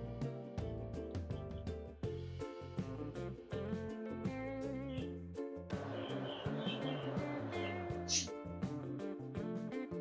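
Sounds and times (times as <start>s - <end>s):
light background music: 0.0s - 10.0s.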